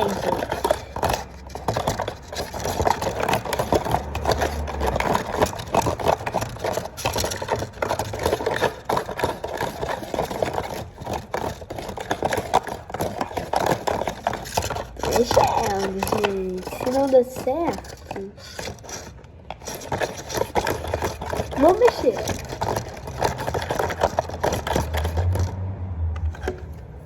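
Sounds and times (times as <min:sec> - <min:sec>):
slime being stirred in a pot: 0:00.0 - 0:25.6.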